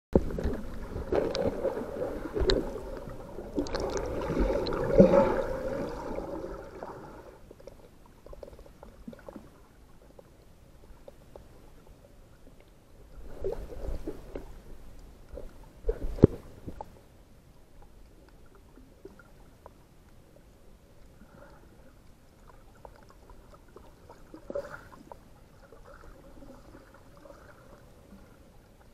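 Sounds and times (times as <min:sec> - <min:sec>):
water gurgling and sloshing: 0:00.2 - 0:28.9.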